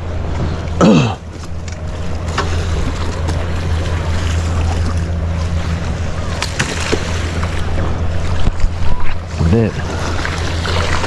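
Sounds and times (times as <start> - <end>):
low drone: 0.0 - 11.0
surf washing on shore: 0.0 - 11.0.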